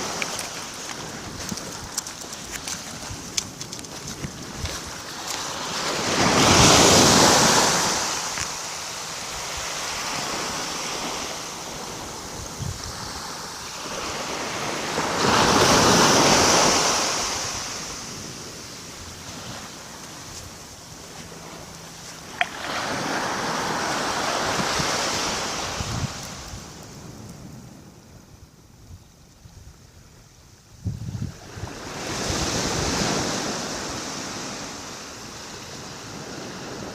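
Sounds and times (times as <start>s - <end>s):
small waves breaking on shore: 0.0s - 28.0s, 31.3s - 36.9s.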